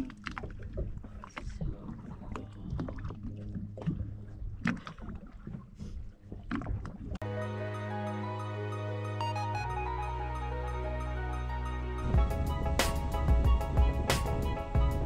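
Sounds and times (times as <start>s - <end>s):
motorboat engine hum: 0.0s - 15.0s
water and wind noise: 0.0s - 15.0s.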